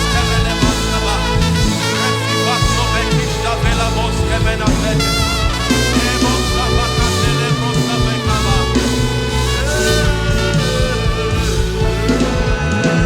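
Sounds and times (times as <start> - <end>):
horn-like lead line: 0.0 - 13.0
live band playing upbeat music: 0.0 - 13.0.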